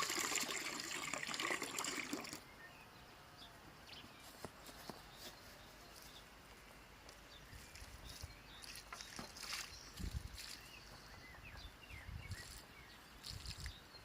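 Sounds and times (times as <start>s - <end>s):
bird chirps: 2.4s - 14.0s.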